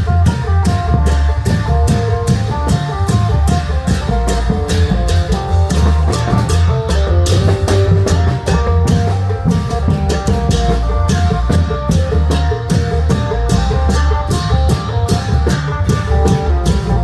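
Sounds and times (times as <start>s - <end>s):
long-drum band drumming: 0.0s - 17.0s.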